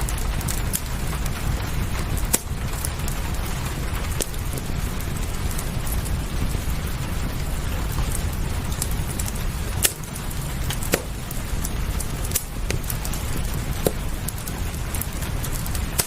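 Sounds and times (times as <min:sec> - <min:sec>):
fireplace crackling: 0:00.0 - 0:16.0
steady rain: 0:00.0 - 0:16.0.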